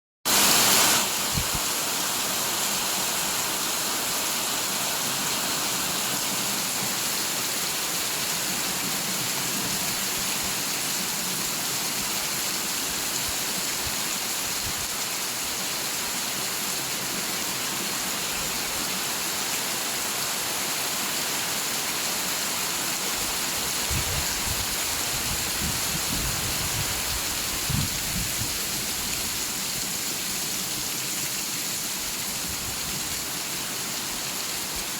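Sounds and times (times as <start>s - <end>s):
steady rain hiss: 0.3s - 34.9s.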